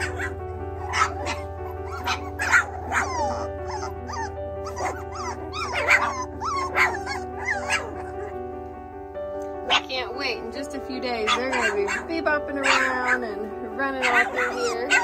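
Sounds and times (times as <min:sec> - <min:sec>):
puppies whining and yipping: 0:00.0 - 0:08.6, 0:11.1 - 0:15.0
background music: 0:00.0 - 0:15.0.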